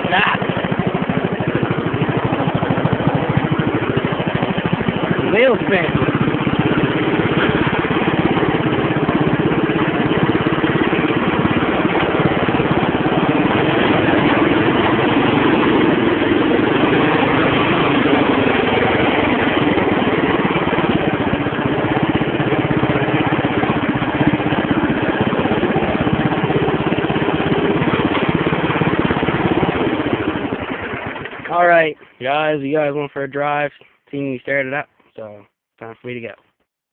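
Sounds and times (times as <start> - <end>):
tractor engine running: 0.0 - 33.6.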